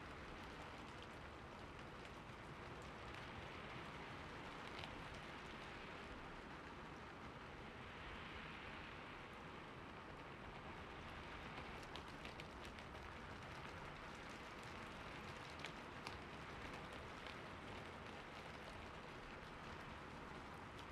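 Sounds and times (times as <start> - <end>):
rain pattering: 0.0 - 20.9.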